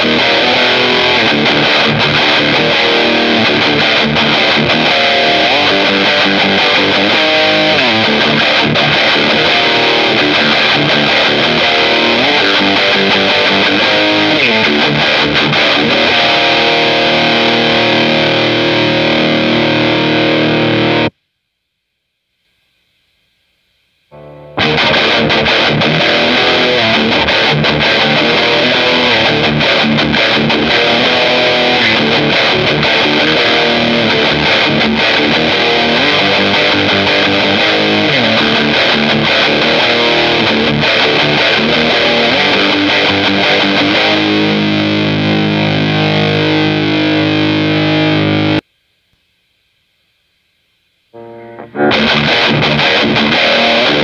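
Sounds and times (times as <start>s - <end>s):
distorted electric guitar riffs: 0.0s - 21.2s, 24.1s - 48.7s, 51.1s - 54.0s.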